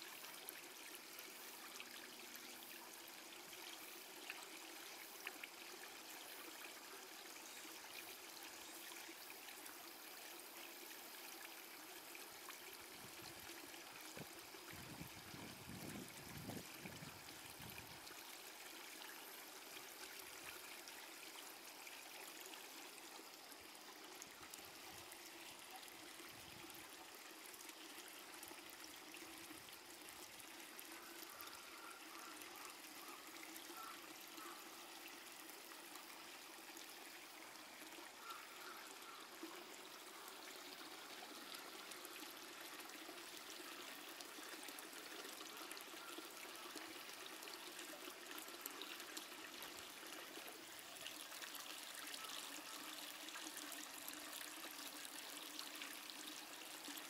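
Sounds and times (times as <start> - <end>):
faint outdoor hiss: 0.0 - 57.0.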